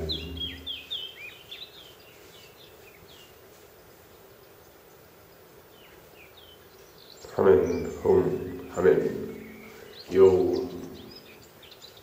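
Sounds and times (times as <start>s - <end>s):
faint outdoor hiss: 0.0s - 12.0s
songbirds chirping: 0.0s - 12.0s.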